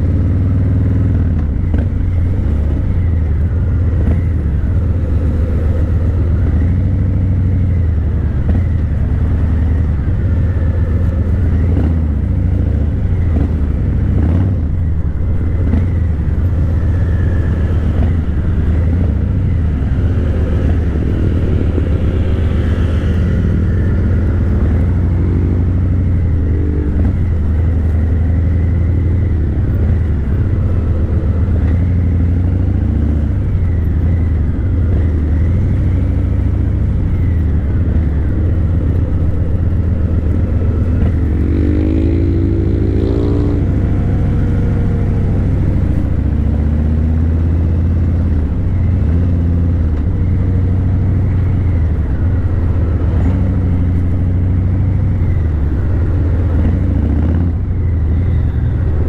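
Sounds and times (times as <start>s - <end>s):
motorcycle engine running loud: 0.0s - 59.0s.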